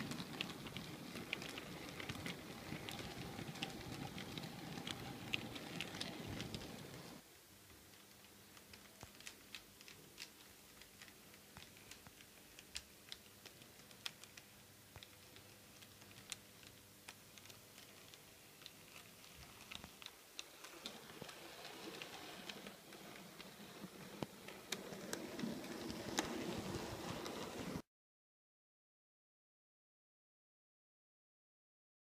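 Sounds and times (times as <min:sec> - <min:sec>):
model train wheels clicking: 0:00.0 - 0:07.2, 0:08.5 - 0:27.8.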